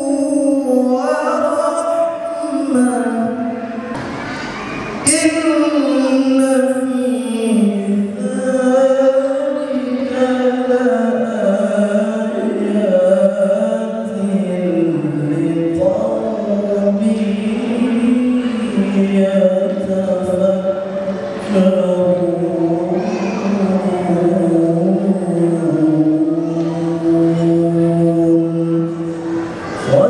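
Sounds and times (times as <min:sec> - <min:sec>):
person chanting long notes: 0:05.0 - 0:30.0.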